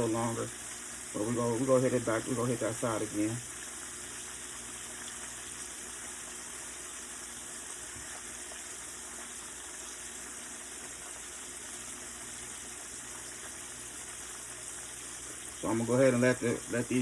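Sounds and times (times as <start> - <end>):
chicken frying in hot oil: 0.0 - 17.0.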